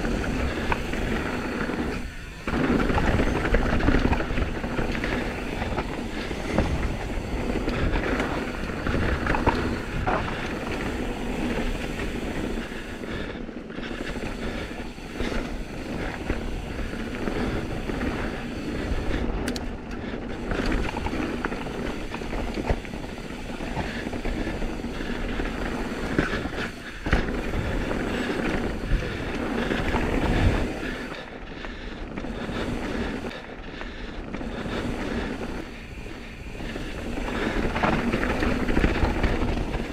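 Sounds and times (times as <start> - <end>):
bike frame and chain rattling: 0.0 - 39.9
bike tyres on dirt: 0.0 - 39.9.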